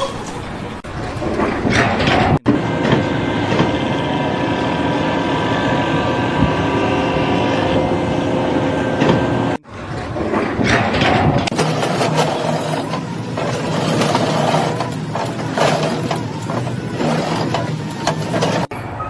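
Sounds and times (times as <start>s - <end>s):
machinery rumbling: 0.0s - 19.0s
machinery whining tones: 0.0s - 19.0s.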